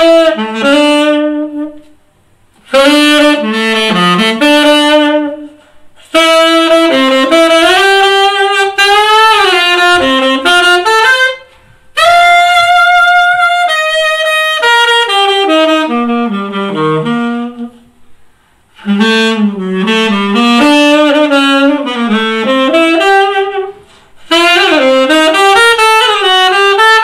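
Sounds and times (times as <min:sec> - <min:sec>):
saxophone playing jazz melody: 0:00.0 - 0:02.0, 0:02.6 - 0:18.0, 0:18.7 - 0:27.0.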